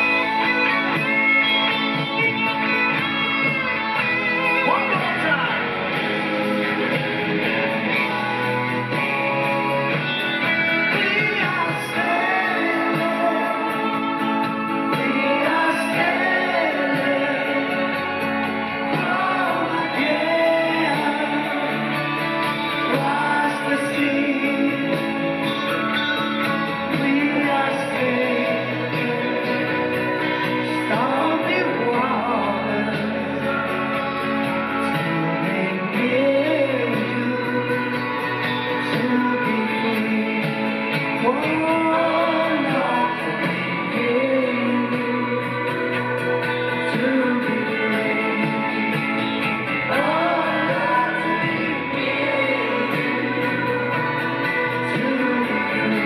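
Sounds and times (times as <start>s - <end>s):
lead singing: 0.0s - 56.0s
live rock band playing: 0.0s - 56.0s.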